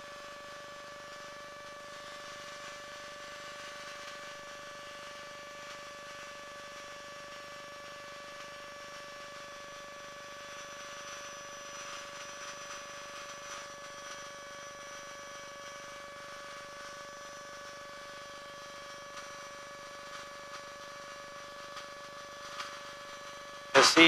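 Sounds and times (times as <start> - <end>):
muffled aircraft engine whine: 0.0 - 24.0.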